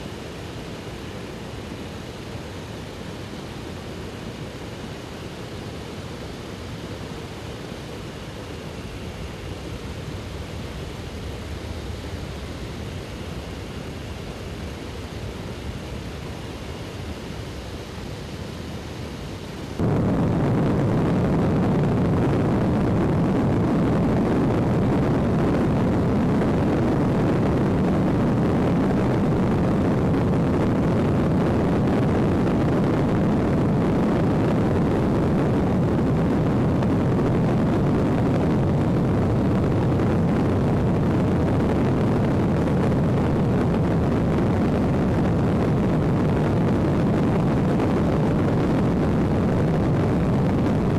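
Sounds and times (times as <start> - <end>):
airplane cabin engine noise: 0.0 - 50.9.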